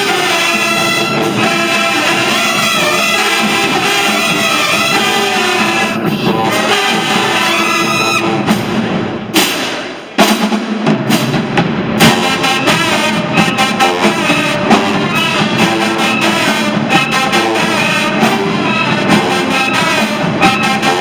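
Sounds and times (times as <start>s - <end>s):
marching band brass and drums: 0.0s - 21.0s.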